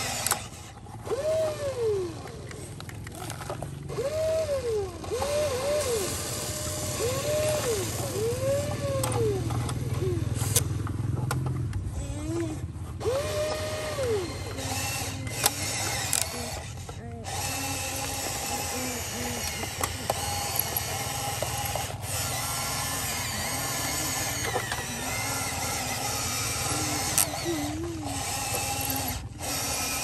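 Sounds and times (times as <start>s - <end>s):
electric motors whirring: 0.0s - 30.0s.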